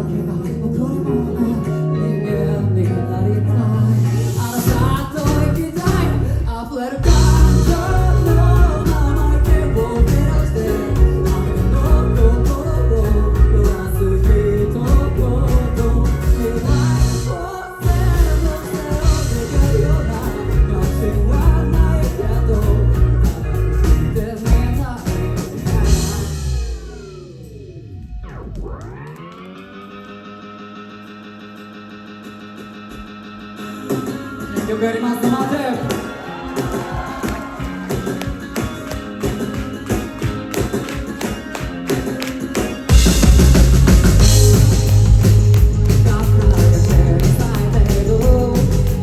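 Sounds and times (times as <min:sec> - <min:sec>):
person singing: 0:00.0 - 0:27.3, 0:33.8 - 0:49.0
rock band playing live: 0:00.0 - 0:49.0
drums: 0:04.0 - 0:30.4, 0:31.4 - 0:49.0.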